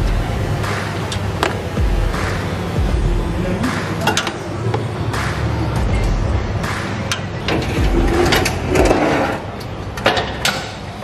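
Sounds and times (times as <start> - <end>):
background music with bass line: 0.0 - 9.6.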